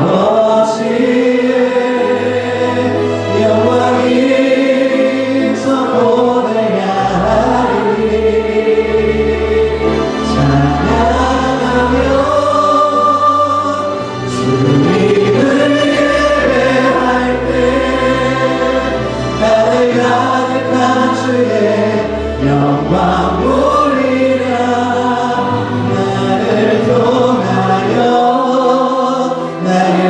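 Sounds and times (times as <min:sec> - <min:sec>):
congregation singing: 0:00.0 - 0:30.0
instrumental accompaniment: 0:00.0 - 0:30.0.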